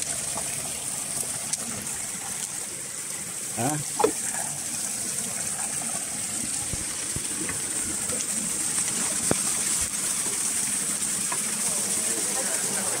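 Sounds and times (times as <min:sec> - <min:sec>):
waterfall rushing into pool: 0:00.0 - 0:13.0.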